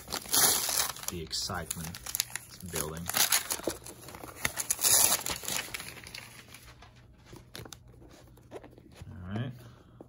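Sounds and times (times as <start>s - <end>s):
paper wrapping crinkling: 0.0s - 8.8s.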